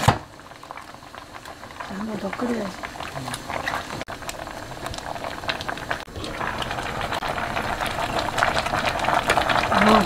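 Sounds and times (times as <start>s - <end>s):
stew boiling in a pot: 0.0s - 10.0s.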